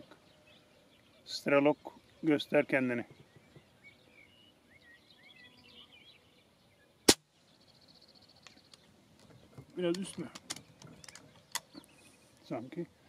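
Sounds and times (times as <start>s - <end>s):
faint bird chirps: 0.0s - 10.0s, 10.6s - 12.9s.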